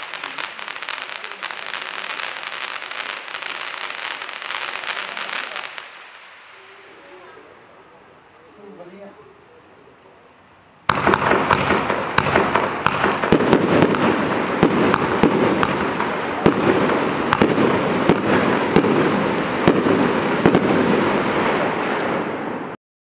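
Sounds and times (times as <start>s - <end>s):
firework sharp cracks: 0.0s - 7.0s, 10.8s - 22.8s
dense crackling of bursting stars: 0.0s - 8.3s, 10.8s - 22.8s.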